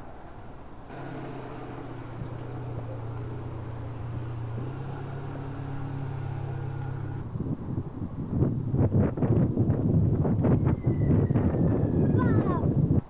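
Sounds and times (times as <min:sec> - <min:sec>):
low motor hum: 0:00.9 - 0:11.8.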